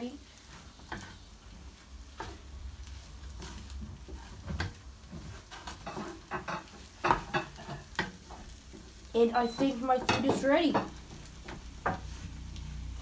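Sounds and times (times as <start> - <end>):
faint frying sizzle: 0.0 - 13.0
spatula scraping frying pan: 0.3 - 13.0.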